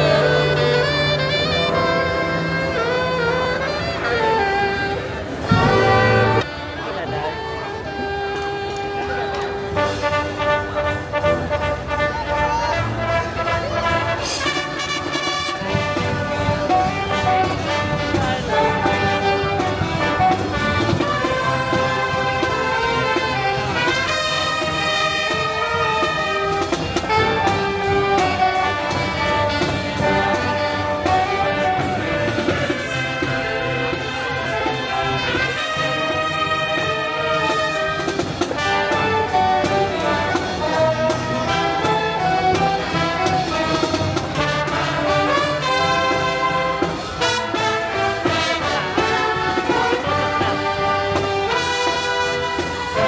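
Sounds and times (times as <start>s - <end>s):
trumpets and trombones melody: 0.0s - 53.0s.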